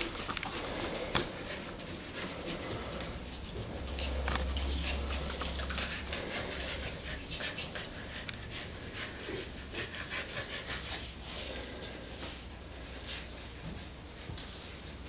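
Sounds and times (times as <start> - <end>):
puppies panting: 0.0 - 15.0.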